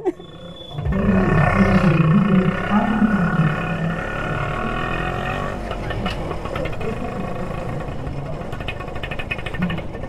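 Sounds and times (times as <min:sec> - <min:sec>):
motorcycle engine running: 0:00.4 - 0:10.0
light rapid ticking: 0:00.8 - 0:10.0.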